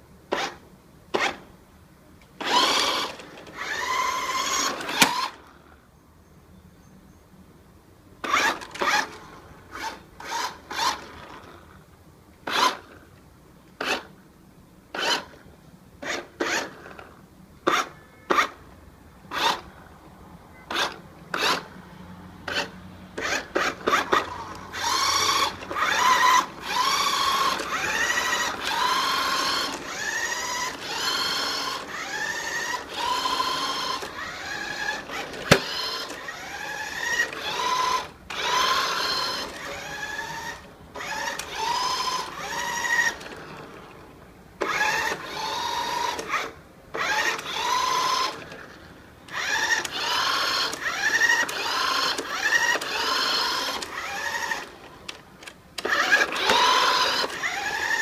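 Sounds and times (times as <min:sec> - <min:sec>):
toy car electric motor whining: 0:00.3 - 0:01.4, 0:02.4 - 0:05.8, 0:08.2 - 0:11.8, 0:12.4 - 0:13.0, 0:13.8 - 0:14.1, 0:14.9 - 0:15.4, 0:16.0 - 0:18.6, 0:19.3 - 0:19.8, 0:20.7 - 0:21.8, 0:22.4 - 0:58.0.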